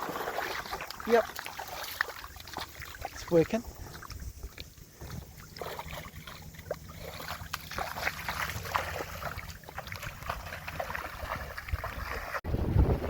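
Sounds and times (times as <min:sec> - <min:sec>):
small splashes and knocks: 0:00.0 - 0:12.4
water lapping against hull: 0:00.0 - 0:13.0.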